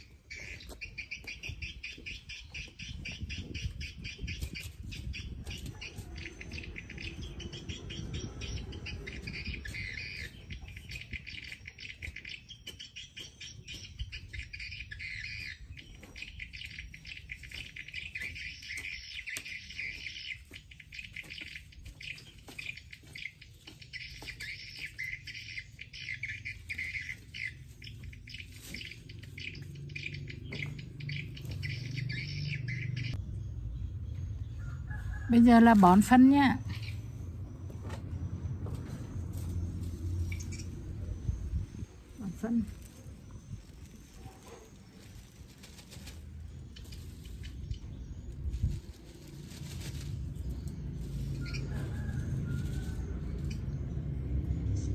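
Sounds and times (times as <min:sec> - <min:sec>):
birds chirping and twittering: 0:00.0 - 0:54.9.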